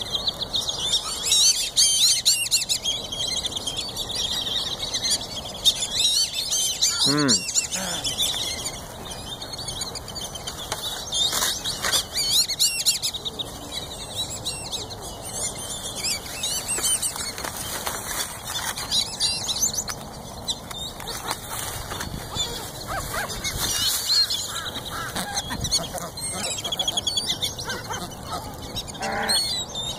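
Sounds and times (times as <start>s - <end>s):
flock of waterbirds calling: 0.0s - 29.9s.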